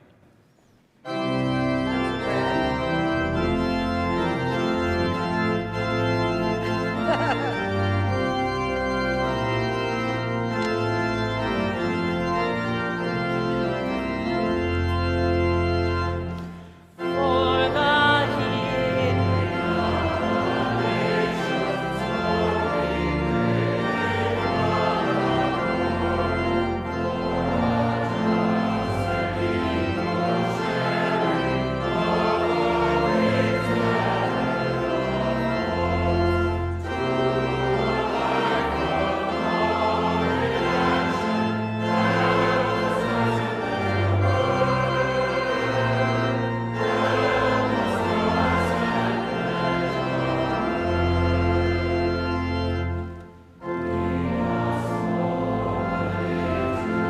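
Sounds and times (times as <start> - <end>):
church organ chords: 1.0 - 57.0
congregation singing a hymn: 1.0 - 57.0.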